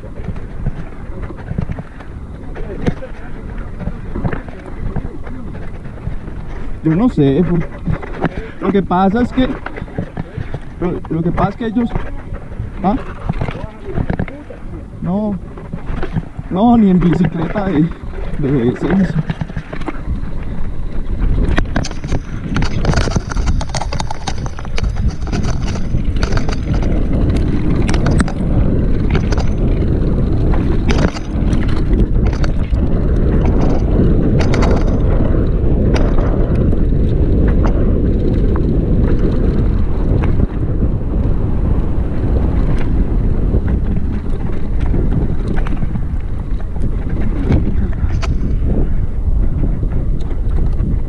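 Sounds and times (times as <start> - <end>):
bike clicking and rattling: 0.0 - 51.0
wind buffeting microphone: 0.0 - 51.0.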